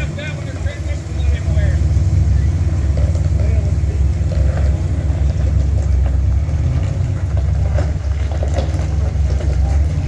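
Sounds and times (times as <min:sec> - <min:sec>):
engine deep rumble: 0:00.0 - 0:10.0.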